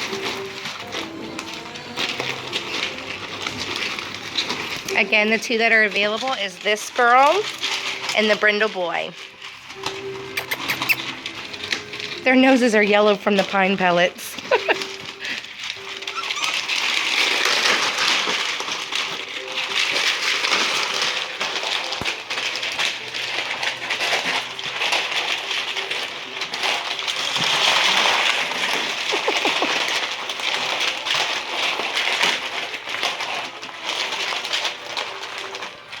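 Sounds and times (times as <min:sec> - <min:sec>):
pellet bedding rattling and crunching: 0:00.0 - 0:36.0.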